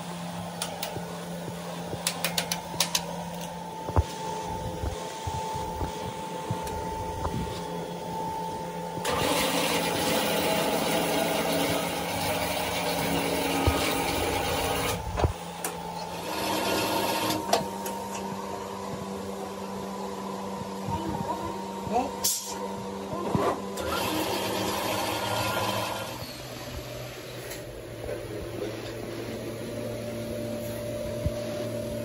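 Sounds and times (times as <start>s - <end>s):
motor hum: 0.0s - 32.0s.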